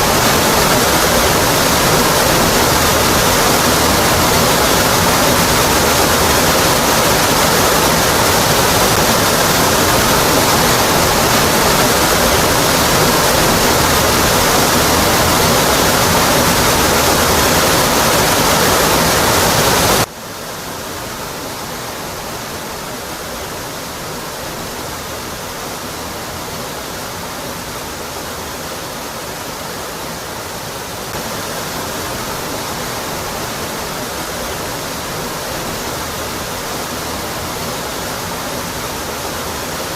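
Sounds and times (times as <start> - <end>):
waterfall rushing onto rock: 0.0 - 39.9.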